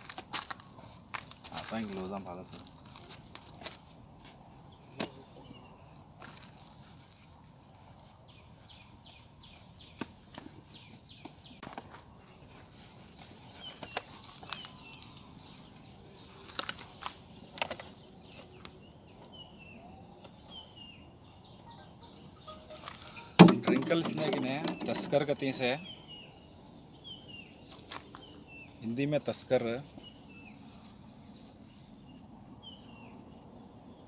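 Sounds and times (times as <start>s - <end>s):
steady outdoor hiss: 0.0s - 34.0s.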